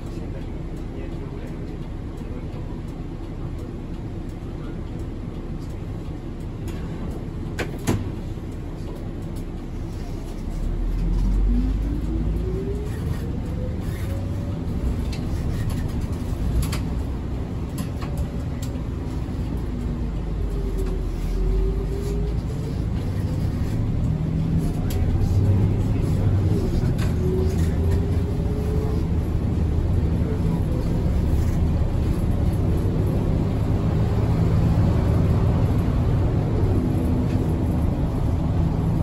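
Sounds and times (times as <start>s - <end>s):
bus engine running: 0.0s - 39.0s
drivetrain whine: 0.0s - 39.0s.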